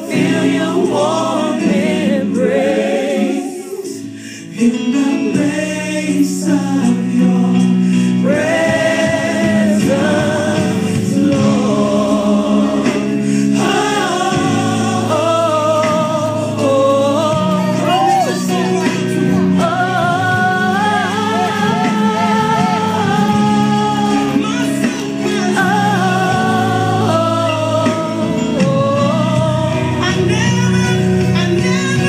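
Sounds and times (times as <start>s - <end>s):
choir singing gospel: 0.0s - 32.0s
instrumental accompaniment: 0.0s - 32.0s.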